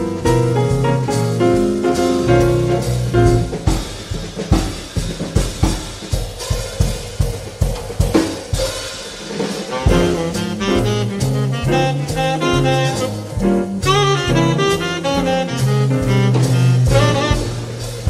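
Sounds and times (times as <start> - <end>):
saxophone and jazz band: 0.0 - 7.3, 9.2 - 18.0
jazz drum solo: 0.0 - 18.0.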